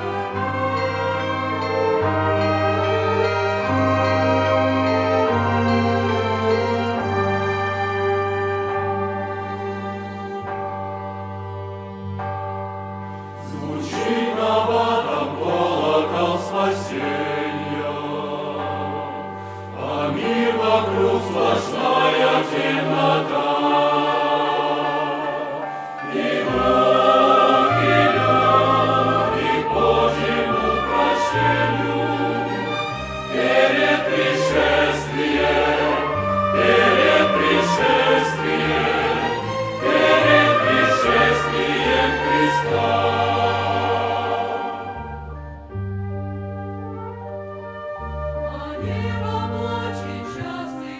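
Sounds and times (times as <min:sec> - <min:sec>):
choir singing: 0:00.0 - 0:10.5, 0:13.4 - 0:46.0, 0:48.3 - 0:50.9
chamber orchestra playing: 0:00.0 - 0:50.9.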